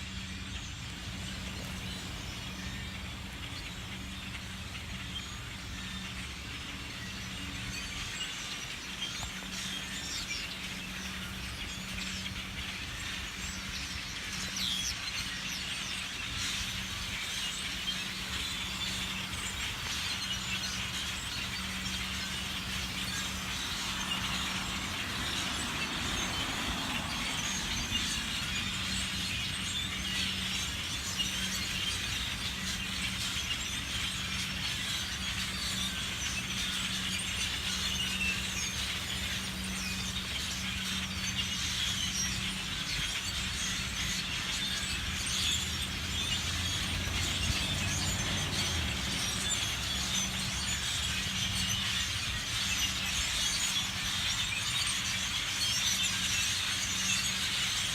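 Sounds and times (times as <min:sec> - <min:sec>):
huge flock of birds chirping: 0:00.0 - 0:57.9.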